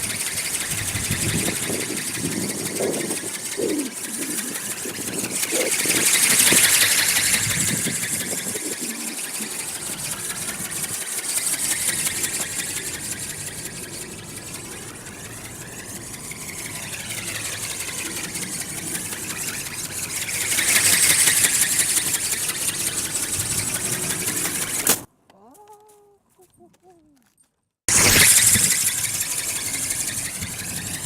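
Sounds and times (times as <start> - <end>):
motor and gears whirring: 0.0 - 25.1, 27.9 - 31.0.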